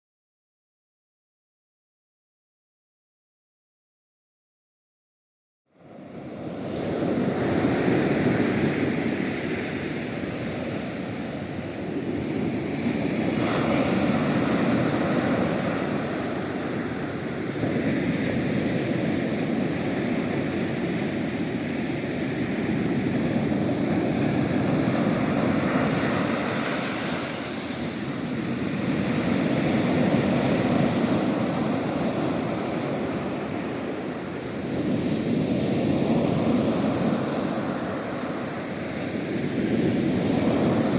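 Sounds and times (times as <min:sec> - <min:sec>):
sea waves breaking on shore: 0:05.8 - 0:40.9.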